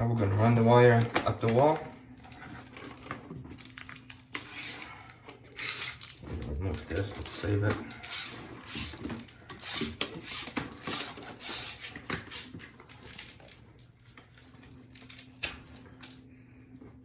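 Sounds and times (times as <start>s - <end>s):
faint steady hum: 0.0s - 17.0s
rustling and clicks of handled parts: 0.2s - 16.2s.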